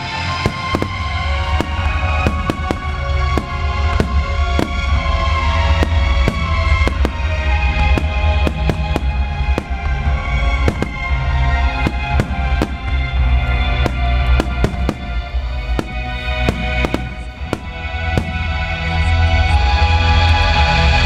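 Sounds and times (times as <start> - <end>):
fireworks bursting: 0.0 - 19.6
bass-heavy music: 0.0 - 21.0.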